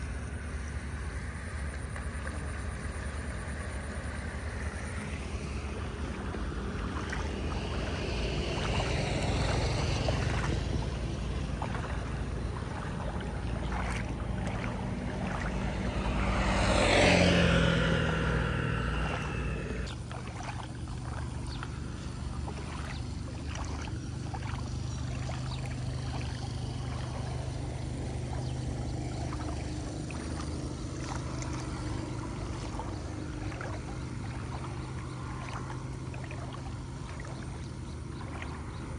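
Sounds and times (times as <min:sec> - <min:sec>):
motor vehicle passing by: 0:00.0 - 0:38.9
steady low rumble: 0:00.0 - 0:38.9.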